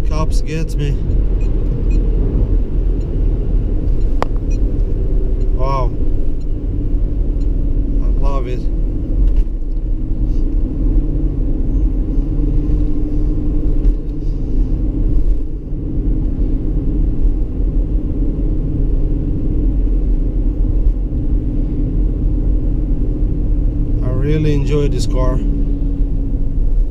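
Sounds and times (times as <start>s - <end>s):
car engine rumbling while driving: 0.0s - 26.9s.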